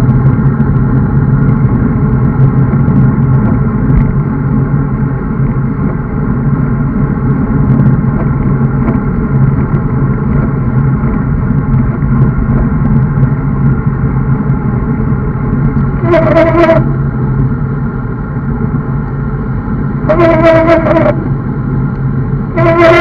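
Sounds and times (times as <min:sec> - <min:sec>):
tyre noise on asphalt: 0:00.0 - 0:23.0
wind rushing over microphone: 0:00.0 - 0:23.0.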